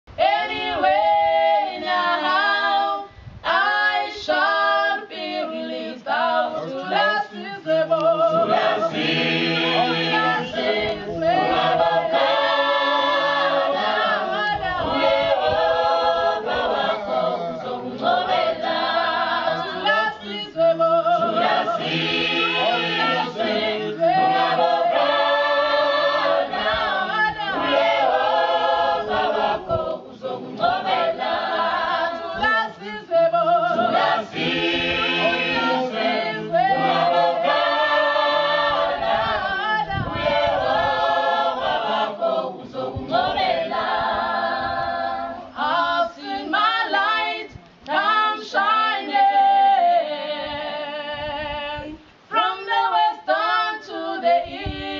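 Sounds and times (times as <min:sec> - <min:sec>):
mixed choir singing a cappella: 0:00.1 - 0:54.9.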